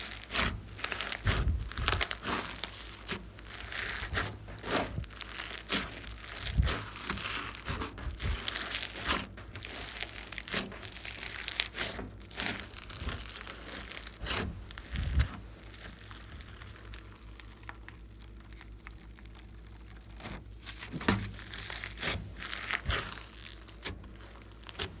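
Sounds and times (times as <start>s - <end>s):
slime squeezed crackling: 0.0s - 25.0s.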